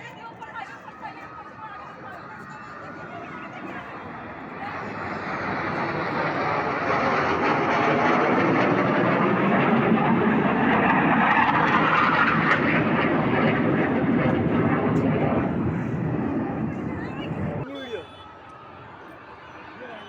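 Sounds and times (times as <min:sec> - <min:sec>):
fighter jet flying overhead: 0:00.9 - 0:20.0.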